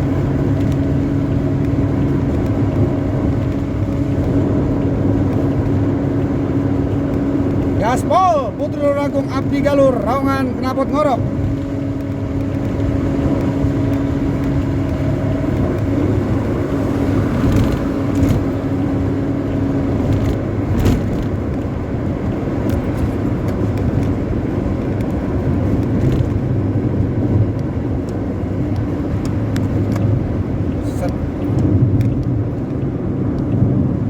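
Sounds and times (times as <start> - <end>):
bus engine roaring: 0.0 - 34.0.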